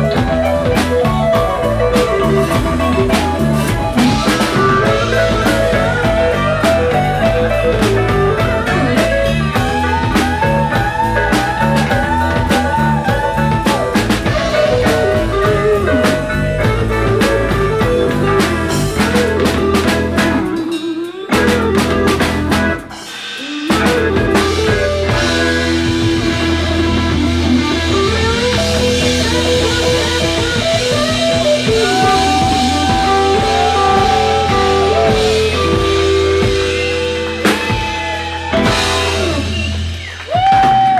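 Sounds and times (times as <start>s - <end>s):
bass line: 0.0s - 40.9s
drum beat: 0.0s - 40.9s
electric guitar lead: 0.0s - 40.9s.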